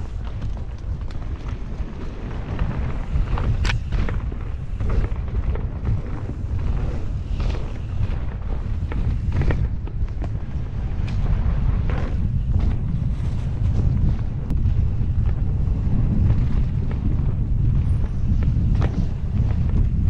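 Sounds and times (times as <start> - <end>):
bike clicks and knocks: 0.0 - 20.0
bike rolling over gravel: 0.0 - 20.0
wind buffeting microphone: 0.0 - 20.0.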